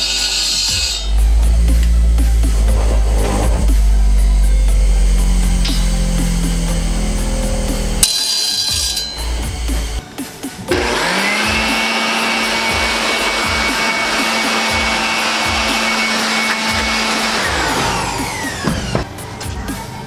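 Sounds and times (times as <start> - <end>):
electric air blower running: 0.0 - 10.0, 10.7 - 19.0.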